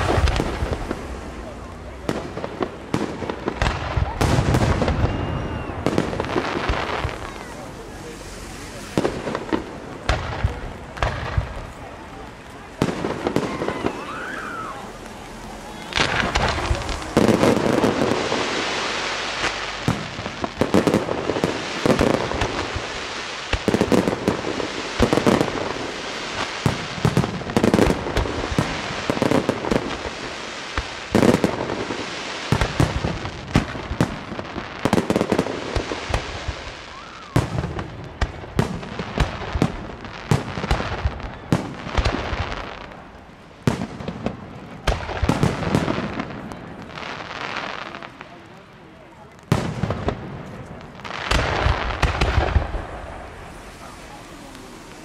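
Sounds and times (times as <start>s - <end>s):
firework hiss and crackle: 0.0s - 55.0s.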